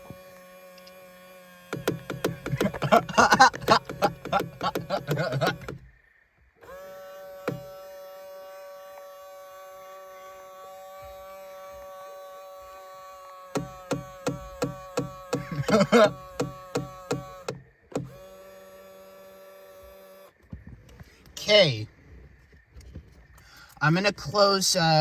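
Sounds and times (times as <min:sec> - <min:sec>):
rapid motor clicking: 0:00.0 - 0:21.4
mirror motor hum: 0:00.0 - 0:23.4.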